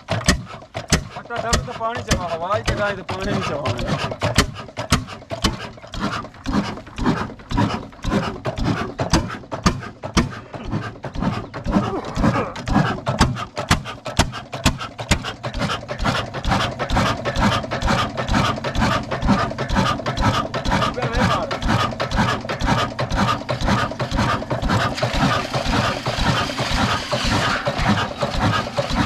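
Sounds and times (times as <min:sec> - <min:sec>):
diesel engine driving pump: 0:00.0 - 0:29.0.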